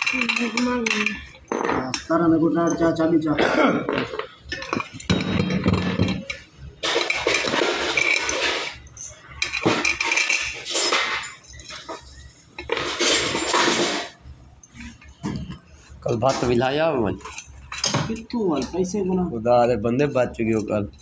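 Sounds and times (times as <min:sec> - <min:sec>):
metal tools clinking: 0:00.0 - 0:16.5, 0:17.1 - 0:21.0.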